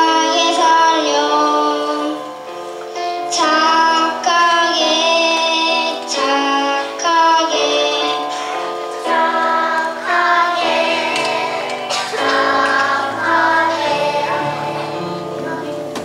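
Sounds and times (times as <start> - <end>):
child singing into a microphone: 0.0 - 15.9.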